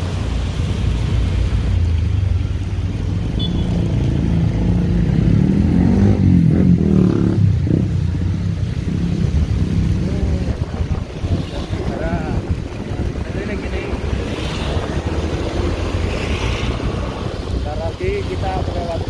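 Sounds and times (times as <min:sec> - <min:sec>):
road and wind noise: 0:00.0 - 0:19.0
vehicle engine rumbling: 0:00.0 - 0:19.0.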